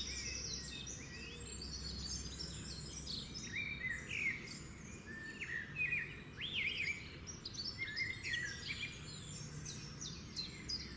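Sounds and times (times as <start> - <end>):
low background noise: 0.0 - 10.9
small birds chirping and whistling: 0.0 - 10.9.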